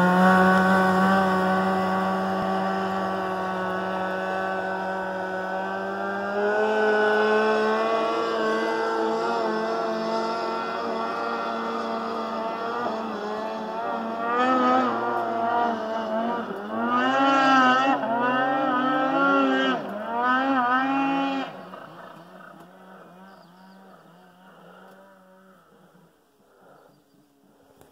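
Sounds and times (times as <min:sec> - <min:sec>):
snowmobile engine revving: 0:00.0 - 0:26.8.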